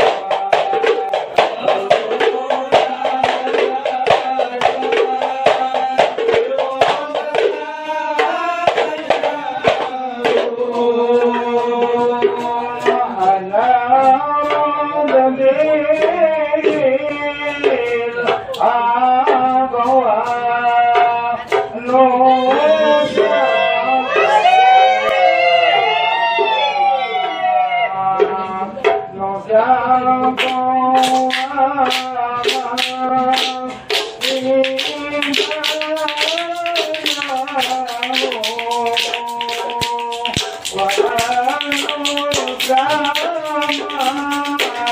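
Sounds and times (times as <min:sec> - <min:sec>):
men singing devotional chant: 0:00.0 - 0:24.4, 0:27.9 - 0:44.9
frame drums beaten in rhythm: 0:00.0 - 0:25.1, 0:28.2 - 0:44.9.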